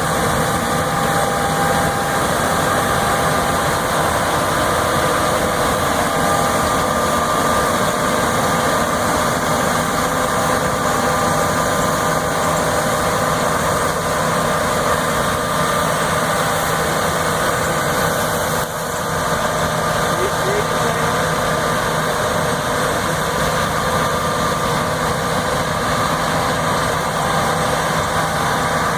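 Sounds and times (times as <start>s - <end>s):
combine harvester engine droning: 0.0s - 28.9s.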